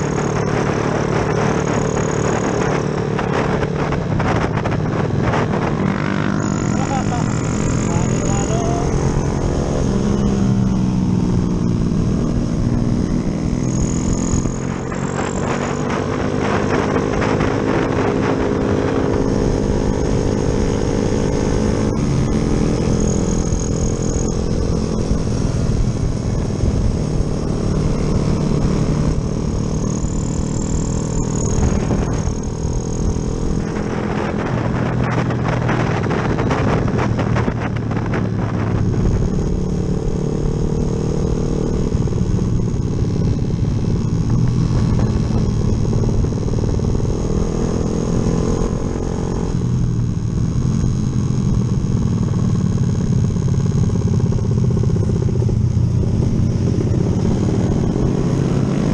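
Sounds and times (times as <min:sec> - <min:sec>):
motorcycle engine revving while ridden: 0:00.0 - 0:58.9.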